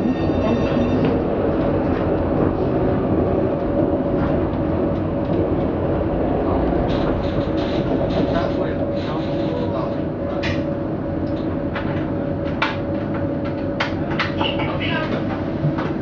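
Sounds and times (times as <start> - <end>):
tram running gear rumble: 0.0 - 16.0.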